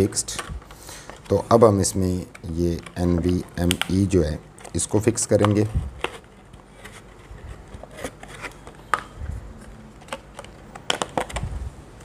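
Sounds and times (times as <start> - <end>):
plastic packaging crackling: 0.0 - 11.7.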